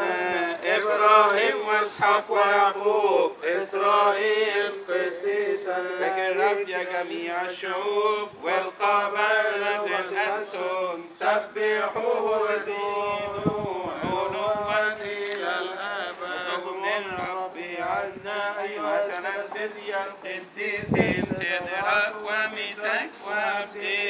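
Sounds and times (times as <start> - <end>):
men chanting: 0.0 - 24.0.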